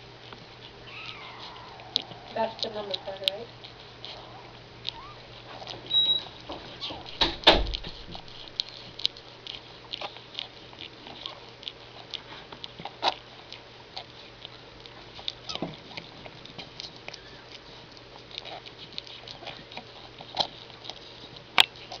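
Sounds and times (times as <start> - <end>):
small clicks and ticks: 0.3 - 22.0.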